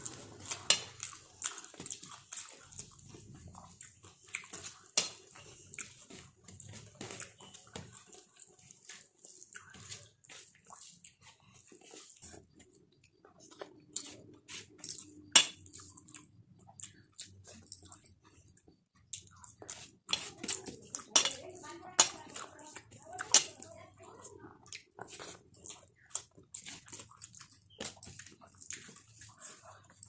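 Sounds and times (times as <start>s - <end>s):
chewing: 0.0s - 30.0s.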